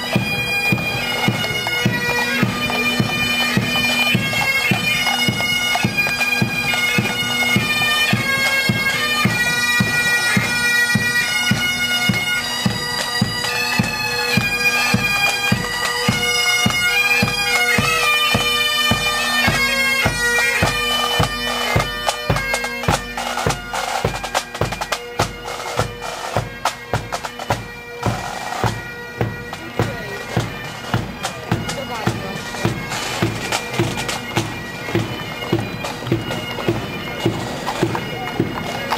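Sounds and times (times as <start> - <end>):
bagpipes playing a march: 0.0 - 38.9
marching drumbeat: 0.0 - 38.9.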